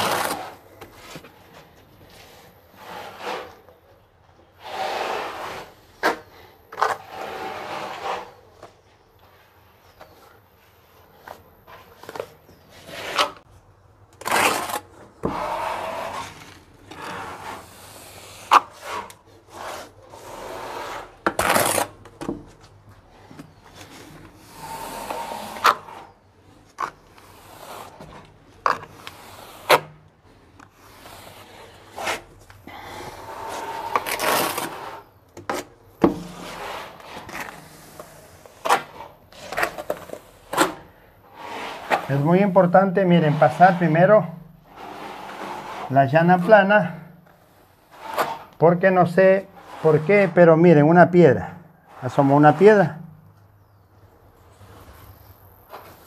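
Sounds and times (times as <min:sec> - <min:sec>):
trowel scraping adhesive on wall: 0:00.0 - 0:01.3, 0:02.1 - 0:03.7, 0:04.6 - 0:08.4, 0:11.2 - 0:13.5, 0:14.2 - 0:22.6, 0:23.3 - 0:51.2.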